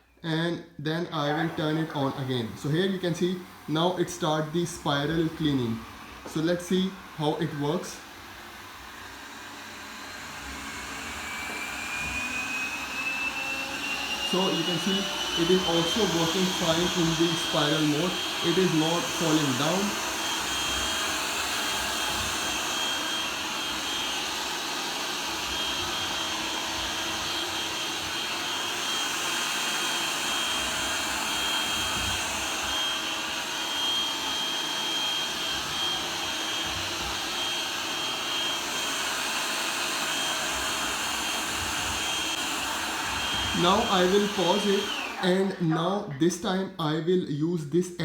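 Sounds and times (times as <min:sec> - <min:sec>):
robot vacuum cleaner running: 0:01.2 - 0:46.2.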